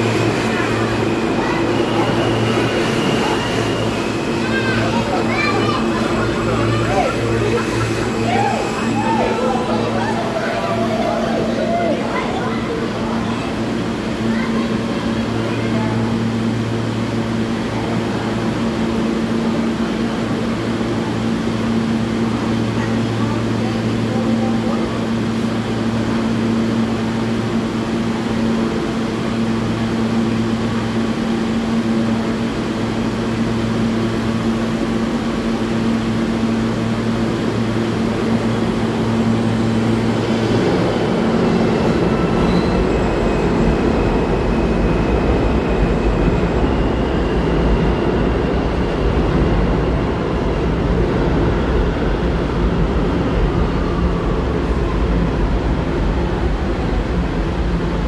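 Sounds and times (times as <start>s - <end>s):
subway train electrical hum: 0.0s - 58.0s
wheels rumbling on rails: 0.0s - 58.0s.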